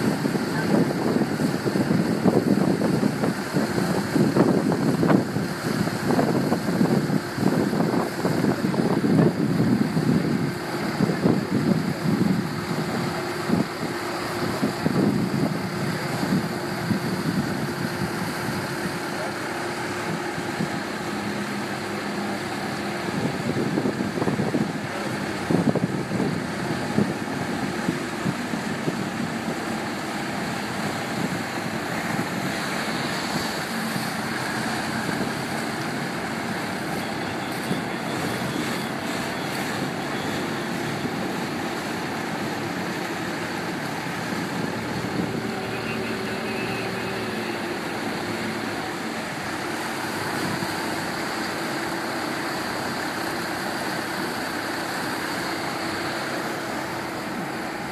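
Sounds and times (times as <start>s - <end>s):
motorboat engine running: 0.0s - 57.9s
water rushing: 0.0s - 57.9s.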